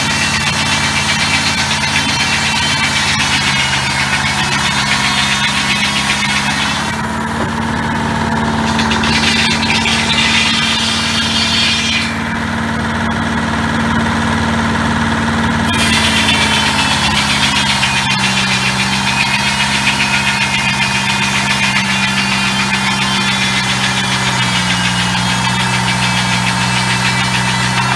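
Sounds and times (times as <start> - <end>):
circular saw blade hissing: 0.0 - 7.2, 8.2 - 13.1, 15.7 - 27.9
diesel engine droning: 0.0 - 27.9.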